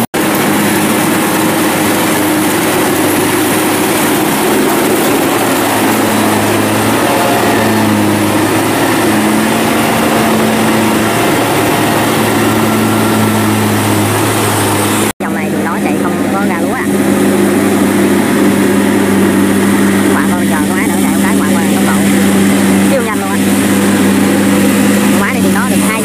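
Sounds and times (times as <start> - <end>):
clatter of machinery: 0.0 - 26.0
combine harvester engine drone: 0.0 - 26.0.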